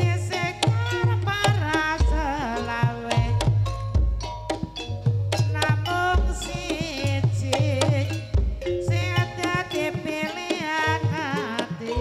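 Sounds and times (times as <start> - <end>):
person singing: 0.0 - 3.6, 5.6 - 12.0
hand drum strokes: 0.0 - 12.0.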